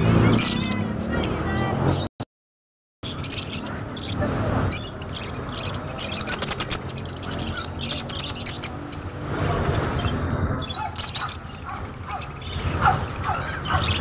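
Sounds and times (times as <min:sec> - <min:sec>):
budgerigars chirping and chattering: 0:00.0 - 0:01.6, 0:03.0 - 0:14.0.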